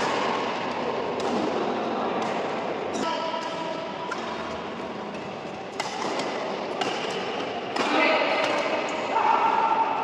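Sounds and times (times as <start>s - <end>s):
rackets hitting shuttlecock: 0.0s - 9.7s.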